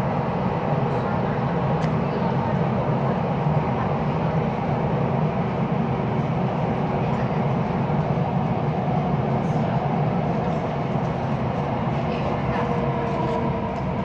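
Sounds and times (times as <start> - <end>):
metro train rumbling in tunnel: 0.0 - 14.0.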